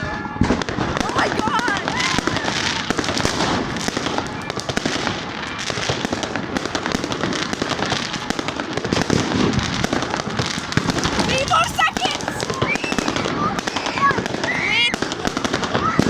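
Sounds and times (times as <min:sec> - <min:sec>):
fireworks cracking and banging: 0:00.0 - 0:16.0.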